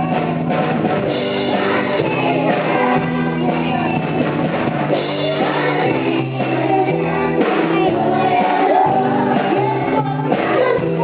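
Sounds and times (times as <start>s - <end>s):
children singing together: 0.0s - 11.0s
drums: 0.0s - 11.0s
keyboard: 0.0s - 11.0s.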